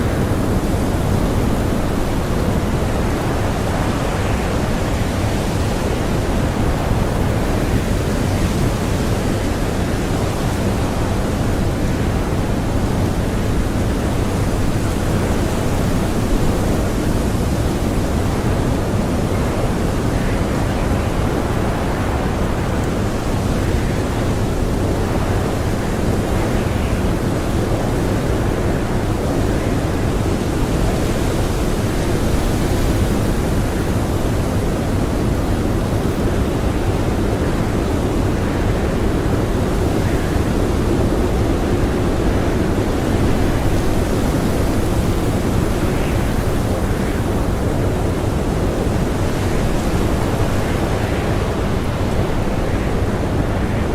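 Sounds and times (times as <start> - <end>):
strong blizzard wind: 0.0 - 53.9.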